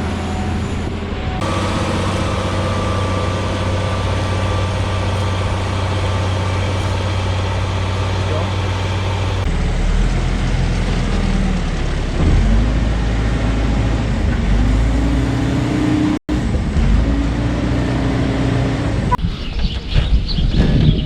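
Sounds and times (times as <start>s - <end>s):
farm machinery engine running: 0.0s - 19.2s.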